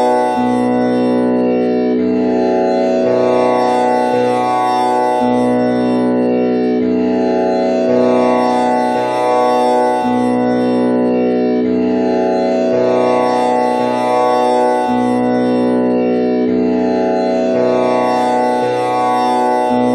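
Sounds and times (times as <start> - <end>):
tanpura drone: 0.0 - 19.9.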